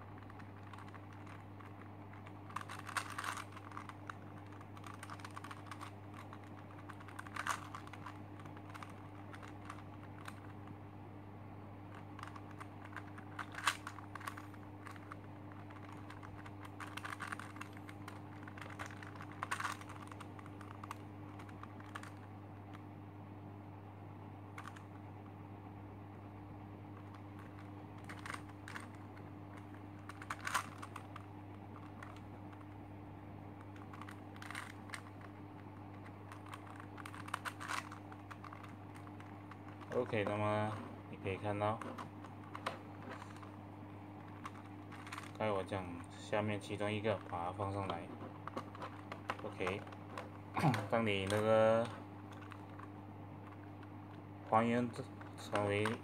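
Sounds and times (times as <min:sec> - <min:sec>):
puzzle clicking and rattling: 0:00.0 - 0:10.6, 0:11.9 - 0:22.8, 0:27.0 - 0:32.8, 0:33.6 - 0:56.0
steady low hum: 0:00.0 - 0:56.0.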